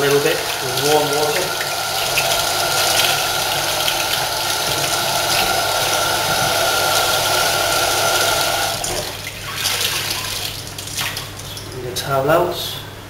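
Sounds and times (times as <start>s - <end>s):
kitchen tap running: 0.0s - 11.9s.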